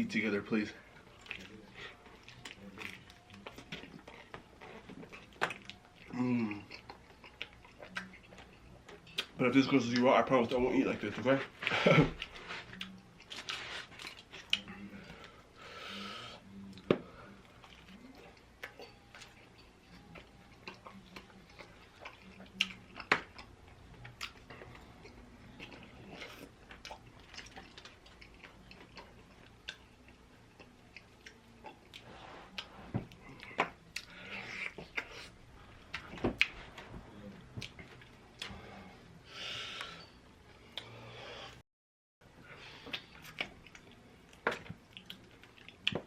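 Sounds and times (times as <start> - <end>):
chewing with wet smacks: 0.9 - 10.2, 11.0 - 15.3, 16.4 - 38.8, 42.8 - 46.0.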